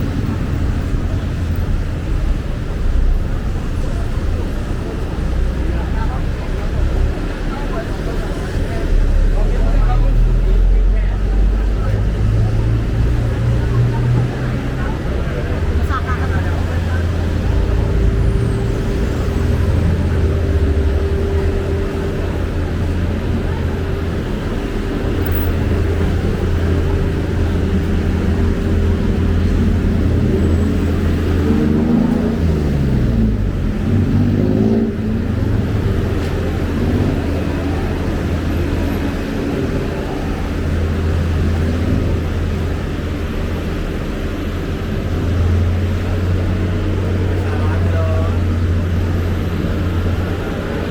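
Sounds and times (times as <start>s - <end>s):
constant hum: 0.0s - 50.9s
road traffic rumble: 0.0s - 50.9s
vehicles passing: 0.0s - 50.9s.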